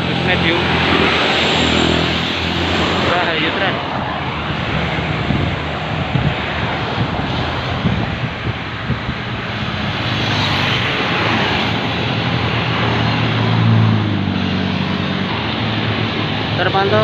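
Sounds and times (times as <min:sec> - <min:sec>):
bus diesel engines labouring: 0:00.0 - 0:17.0
road and traffic noise: 0:00.0 - 0:17.0.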